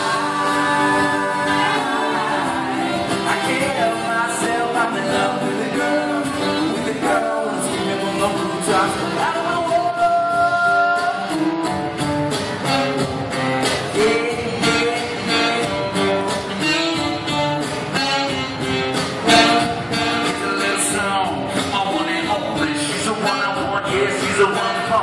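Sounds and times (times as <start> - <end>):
live pop band music: 0.0 - 25.0
percussion beat: 0.0 - 25.0
strummed acoustic guitar: 0.0 - 25.0.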